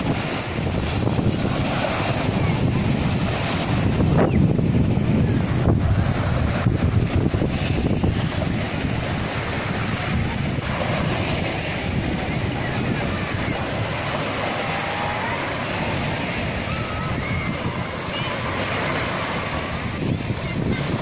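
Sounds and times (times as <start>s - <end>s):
sea waves washing ashore: 0.0s - 21.0s
wind buffeting microphone: 0.0s - 21.0s.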